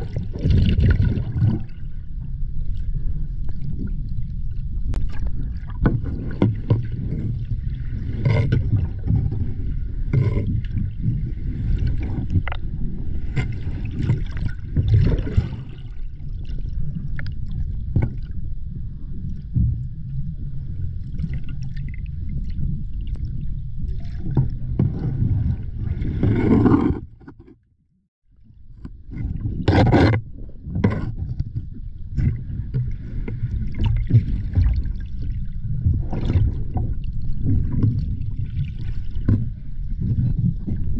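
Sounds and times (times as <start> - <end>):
muffled underwater rumble: 0.0 - 27.5, 28.3 - 40.9.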